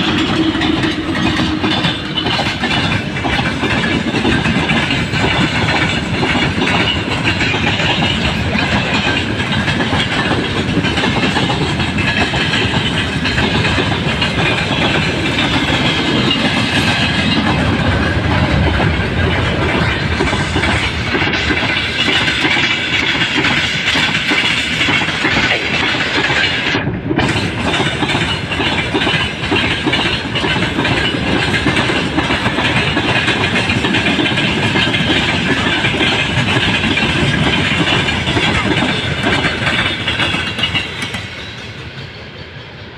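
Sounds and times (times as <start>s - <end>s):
wagon wheels clattering on rails: 0.0s - 42.8s
freight train rolling past: 0.0s - 42.9s.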